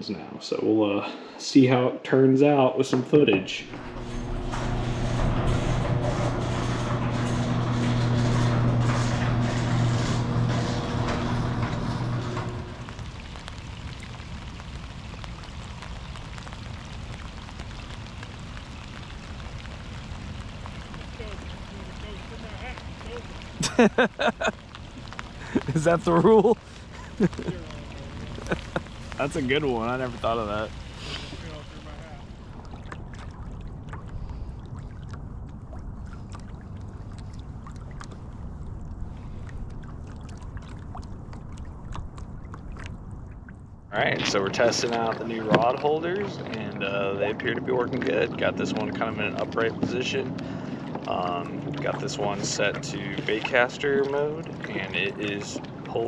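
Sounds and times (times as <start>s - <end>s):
low rumble: 3.4s - 55.9s
water splashing against kayak hull: 3.7s - 56.0s.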